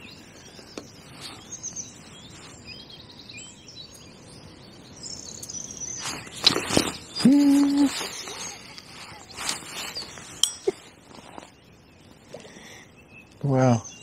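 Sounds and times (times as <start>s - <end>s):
faint outdoor hiss: 0.0s - 14.0s
songbirds singing: 0.0s - 14.0s.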